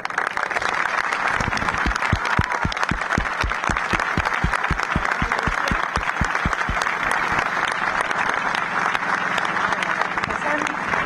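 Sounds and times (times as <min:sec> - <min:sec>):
close steady handclaps: 0:00.0 - 0:11.0
crowd applauding: 0:00.0 - 0:11.0.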